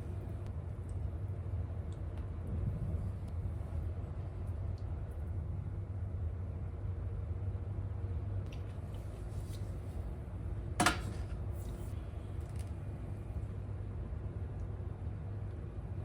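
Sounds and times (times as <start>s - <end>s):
range hood fan humming: 0.0s - 16.0s.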